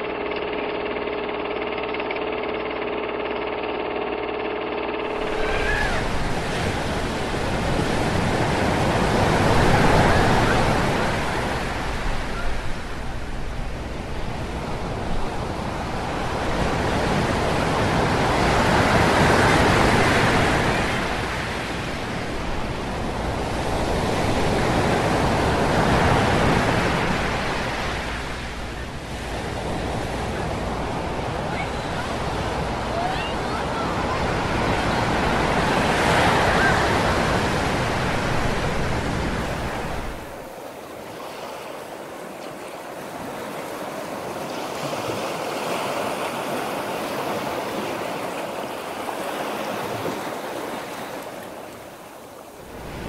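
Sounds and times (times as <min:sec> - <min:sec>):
sea waves breaking on beach: 0:04.1 - 0:53.0.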